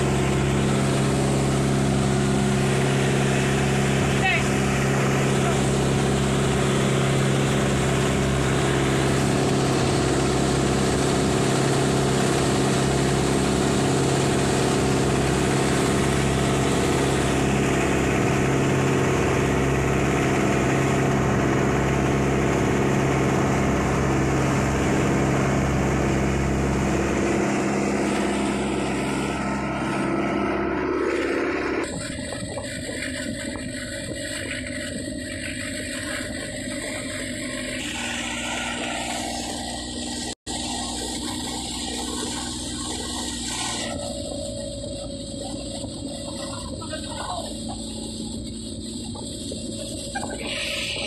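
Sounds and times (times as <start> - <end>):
diesel boat engine running: 0.0 - 51.0
water rushing along hull: 0.0 - 51.0.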